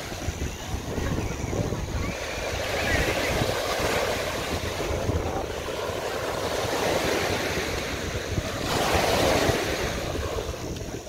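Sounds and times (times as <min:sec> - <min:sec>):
small waves breaking on beach: 0:00.0 - 0:11.0
wind buffeting microphone: 0:00.0 - 0:11.0.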